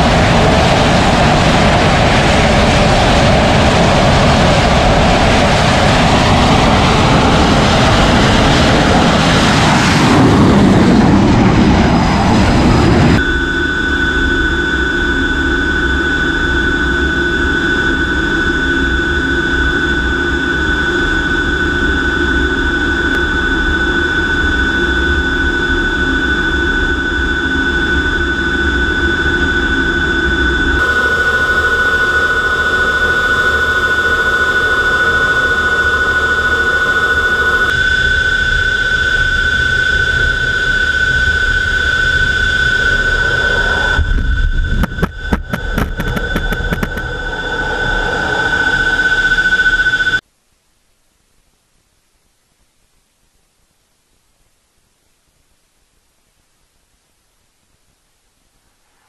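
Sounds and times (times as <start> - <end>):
cockpit engine rumble: 0.0 - 50.2
jet engines roaring: 0.0 - 50.2
high steady whine: 0.0 - 59.0.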